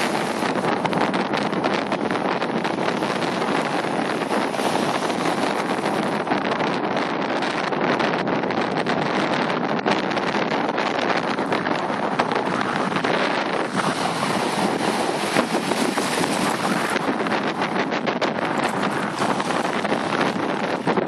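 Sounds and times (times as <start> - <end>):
shallow surf washing: 0.0 - 21.0
wind buffeting microphone: 0.0 - 21.0.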